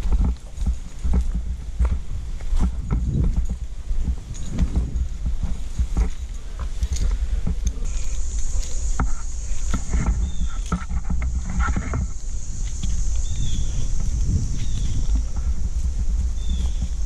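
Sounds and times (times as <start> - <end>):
climbing gear clicks and knocks: 0.0 - 17.0
steady high buzz: 0.0 - 17.0
wind rumble on microphone: 0.0 - 17.0.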